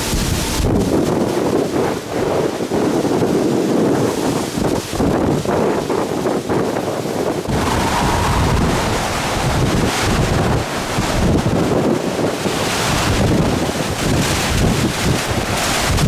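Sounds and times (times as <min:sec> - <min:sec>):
wind gusting on microphone: 0:00.0 - 0:16.0.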